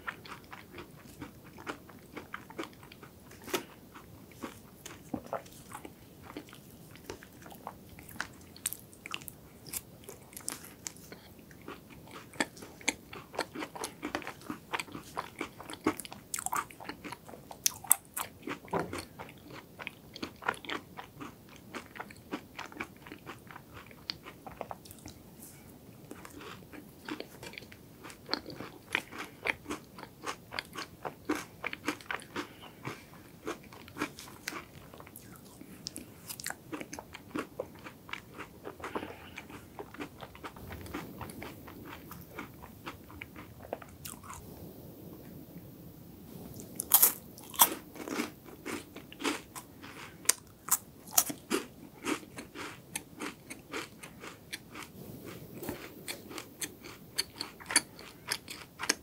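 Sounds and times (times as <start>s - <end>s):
crunchy chewing of wafer: 0.0s - 25.2s, 26.0s - 44.5s, 46.6s - 59.0s.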